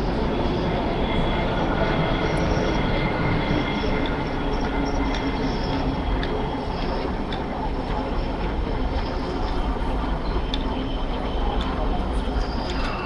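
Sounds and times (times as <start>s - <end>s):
train rumbling on tracks: 0.0s - 13.0s.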